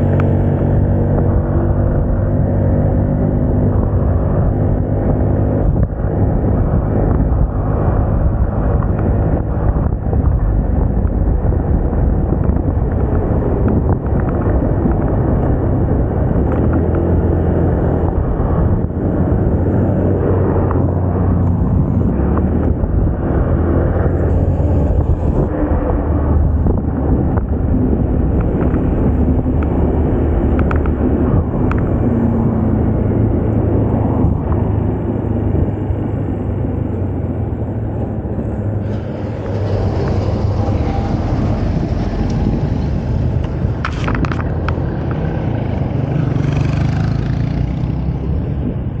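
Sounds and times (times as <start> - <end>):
road and air noise: 0.0 - 49.0.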